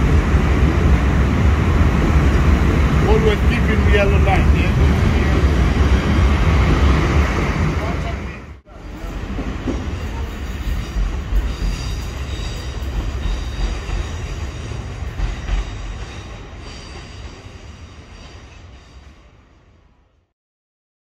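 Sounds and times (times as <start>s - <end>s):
train wheels rumbling on track: 0.0s - 19.7s.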